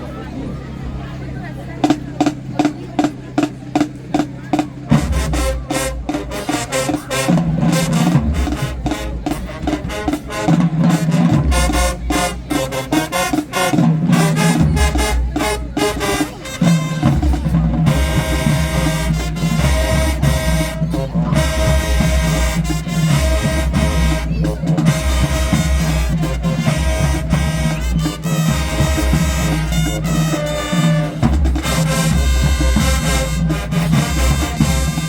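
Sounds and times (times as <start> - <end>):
held low brass notes: 0.0 - 35.0
marching band playing: 0.0 - 35.0
drums keeping steady beat: 1.1 - 35.0.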